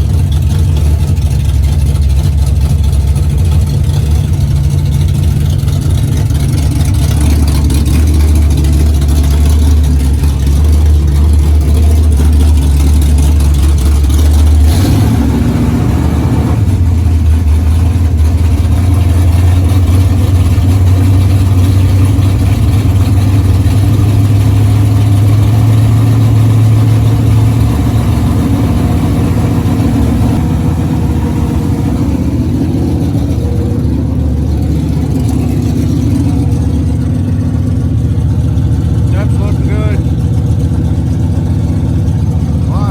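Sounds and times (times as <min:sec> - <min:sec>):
car engine running: 0:00.0 - 0:42.9.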